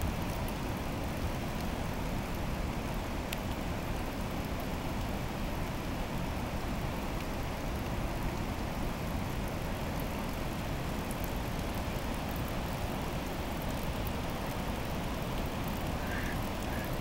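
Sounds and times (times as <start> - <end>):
rushing river water: 0.0 - 17.0.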